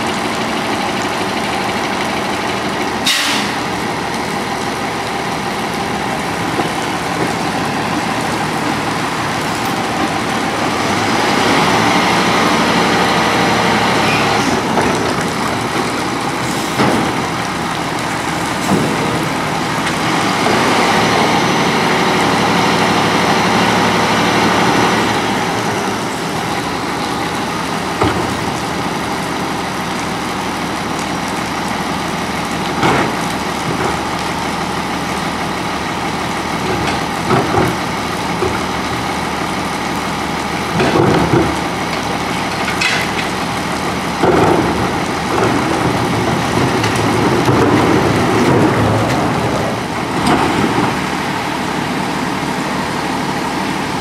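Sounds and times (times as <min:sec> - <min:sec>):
garbage truck engine running: 0:00.0 - 0:54.0.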